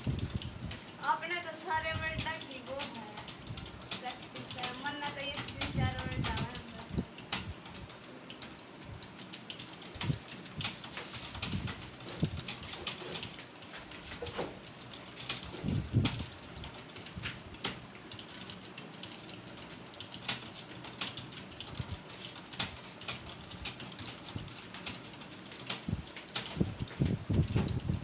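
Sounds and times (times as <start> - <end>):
computer keyboard typing: 0.0 - 28.0.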